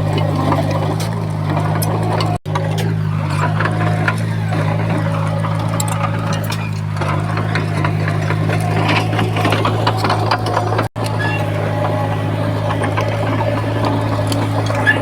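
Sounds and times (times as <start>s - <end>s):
bulldozer diesel engine: 0.0s - 15.0s.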